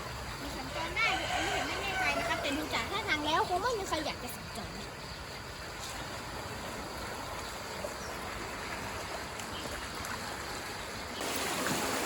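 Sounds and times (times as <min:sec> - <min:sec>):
floodwater rushing over road: 0:00.0 - 0:12.0.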